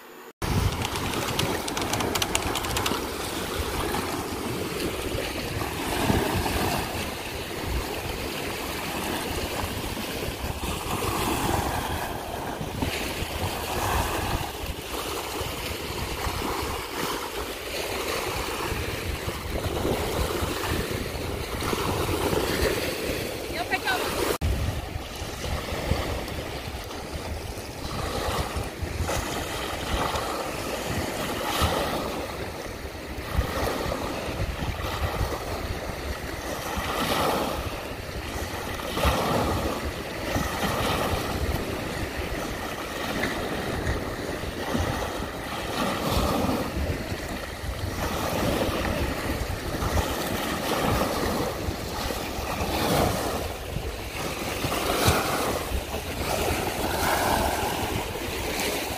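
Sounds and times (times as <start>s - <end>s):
small waves washing over rocks: 0.4s - 58.9s.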